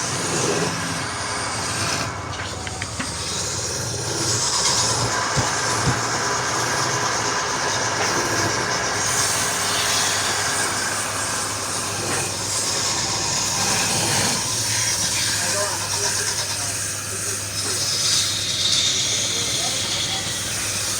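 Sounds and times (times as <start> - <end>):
lathe hum: 0.0 - 20.9
tool hissing on spinning wood: 0.0 - 20.9.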